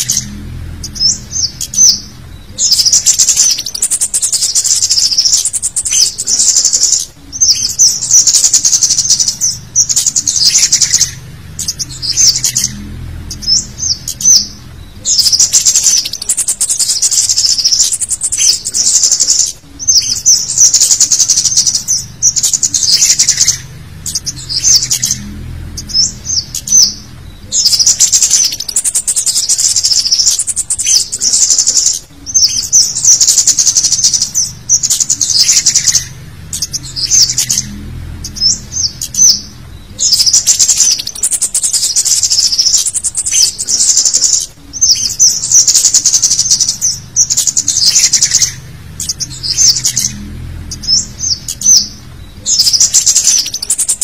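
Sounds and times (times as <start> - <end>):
high-pitched bird chattering: 0.0 - 54.0.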